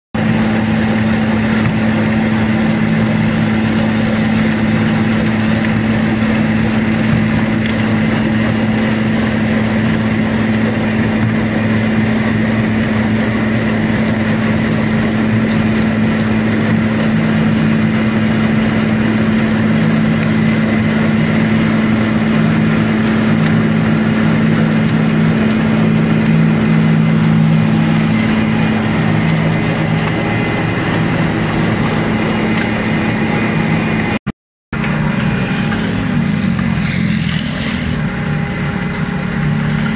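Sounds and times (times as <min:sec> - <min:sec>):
lower tone: 0:00.2 - 0:34.2
rotary mixer engine drone: 0:00.2 - 0:39.9.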